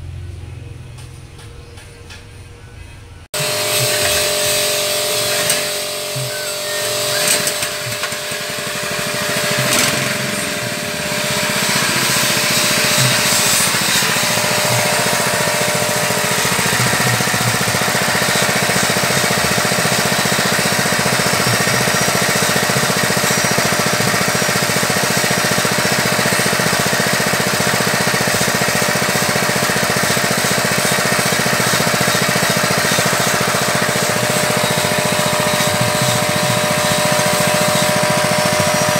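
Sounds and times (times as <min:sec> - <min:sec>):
small gasoline engine running: 0:03.4 - 0:38.9.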